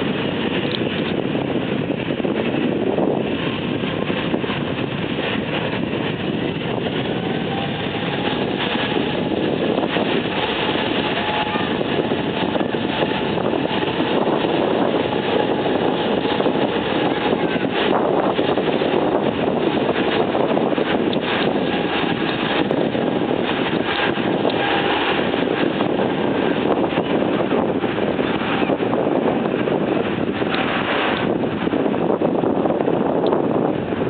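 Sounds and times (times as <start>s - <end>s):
jet engine roar: 0.0s - 34.0s.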